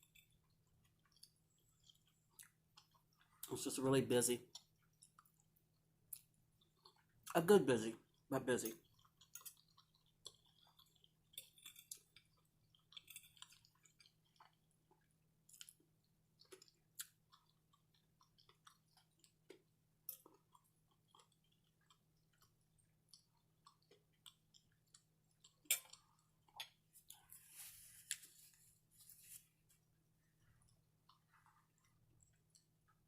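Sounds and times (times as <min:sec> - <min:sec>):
wet chewing and mouth clicks: 0:00.0 - 0:03.6, 0:04.4 - 0:07.3, 0:08.0 - 0:27.4, 0:29.6 - 0:33.0.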